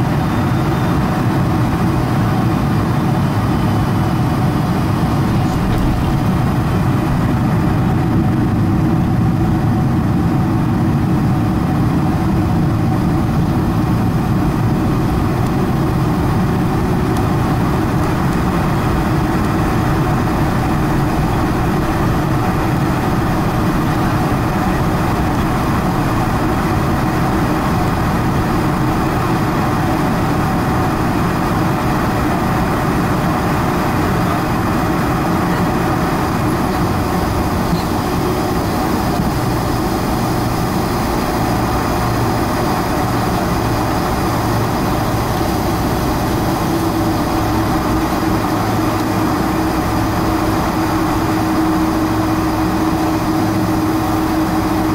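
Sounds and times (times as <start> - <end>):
airplane rolling low rumble: 0.0 - 54.9
jet engines idling: 0.0 - 54.9.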